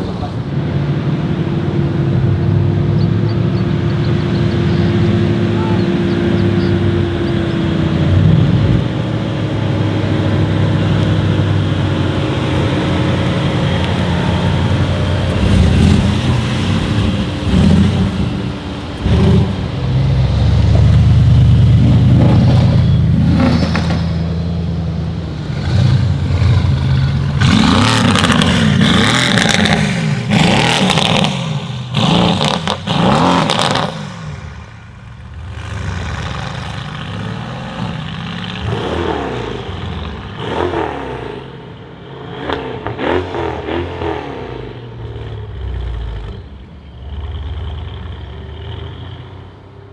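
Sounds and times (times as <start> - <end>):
car engine idling and revving: 0.0 - 49.9.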